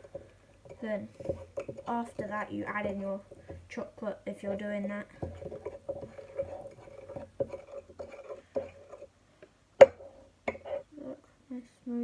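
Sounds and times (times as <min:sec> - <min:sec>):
spoon stirring batter in a mug: 0:00.0 - 0:09.2, 0:09.8 - 0:10.9.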